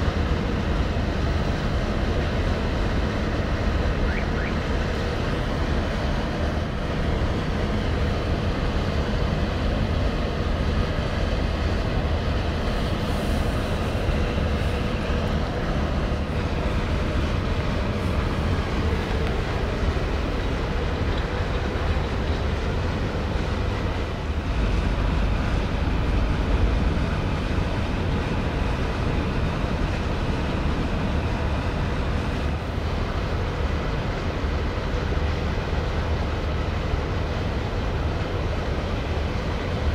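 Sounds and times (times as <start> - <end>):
faint mechanical hum: 0.0 - 39.9
ship engines rumbling: 0.0 - 39.9.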